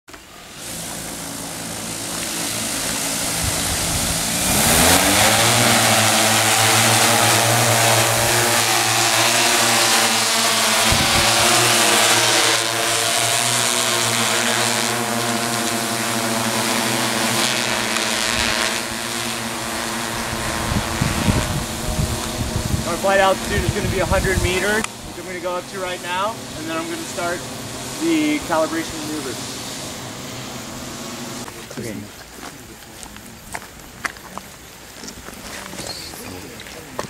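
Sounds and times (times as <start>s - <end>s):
drone propellers humming: 0.1s - 31.6s.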